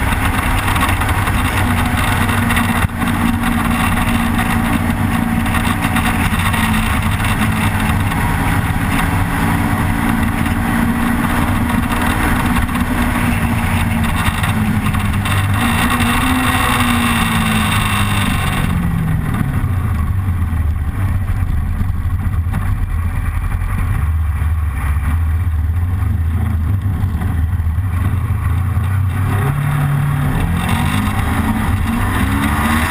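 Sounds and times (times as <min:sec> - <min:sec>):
motorcycle engine: 0:00.0 - 0:32.9
wind noise: 0:00.0 - 0:32.9.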